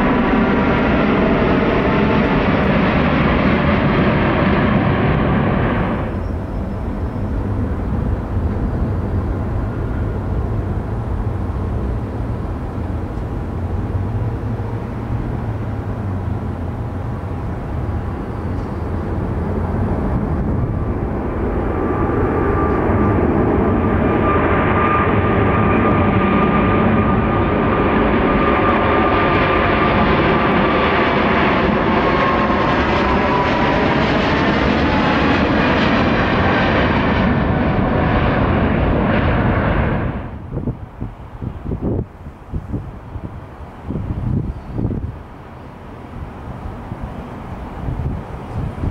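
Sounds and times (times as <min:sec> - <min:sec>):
jet engine high whine: 0:00.0 - 0:48.9
jet engines rumbling: 0:00.0 - 0:48.9.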